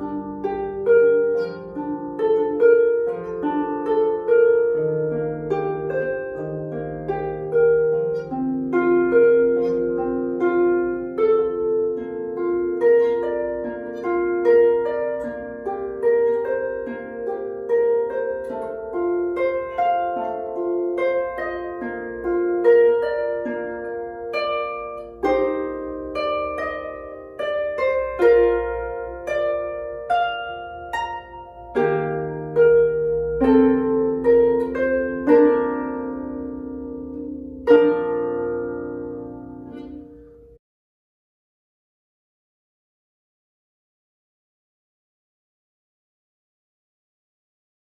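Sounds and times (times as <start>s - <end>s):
harp plucking: 0.0s - 40.6s.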